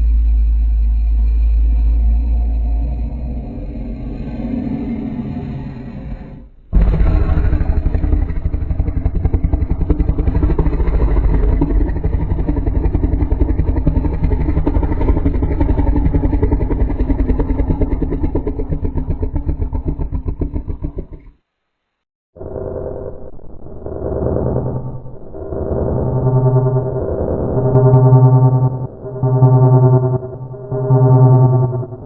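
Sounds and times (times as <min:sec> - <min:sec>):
monster pulsing rumbling call: 0:00.0 - 0:21.4, 0:22.4 - 0:32.0.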